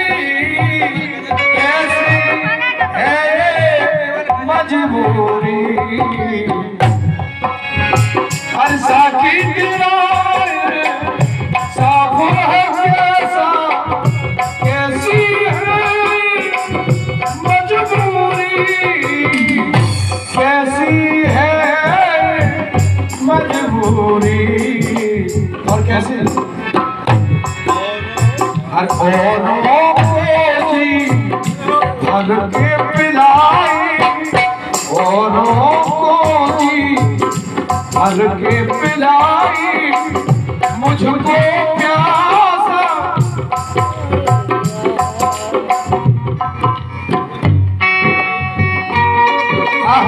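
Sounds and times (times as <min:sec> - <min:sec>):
hand drum beat: 0:00.0 - 0:50.0
harmonium chords: 0:00.0 - 0:50.0
held instrumental notes: 0:00.0 - 0:50.0
man singing: 0:00.0 - 0:50.0.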